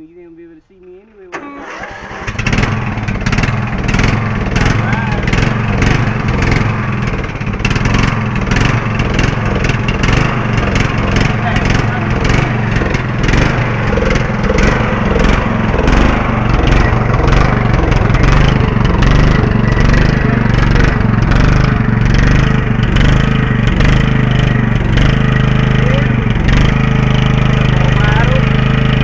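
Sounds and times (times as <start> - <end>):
riding lawn mower engine pulsing: 0.8 - 29.0.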